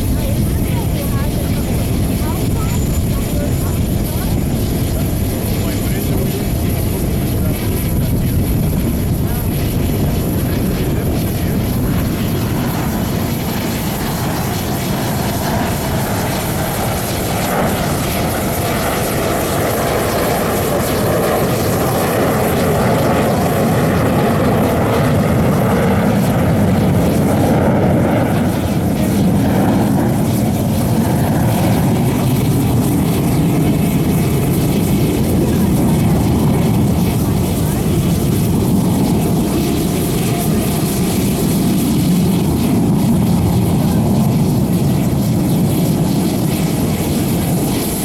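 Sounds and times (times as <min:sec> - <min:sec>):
fighter jet engine noise: 0:00.0 - 0:48.0.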